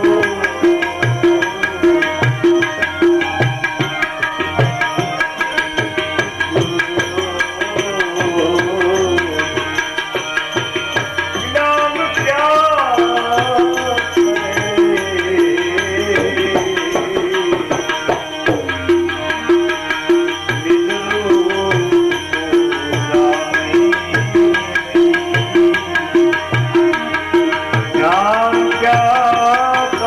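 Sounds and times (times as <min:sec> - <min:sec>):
tabla rhythm: 0:00.0 - 0:30.0.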